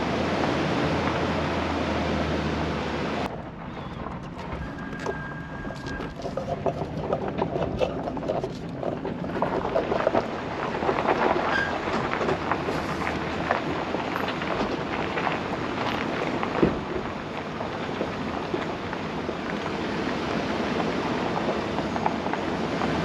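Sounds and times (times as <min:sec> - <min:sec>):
low engine hum: 0:00.0 - 0:23.0
tyres crunching over gravel and rock: 0:03.3 - 0:23.0.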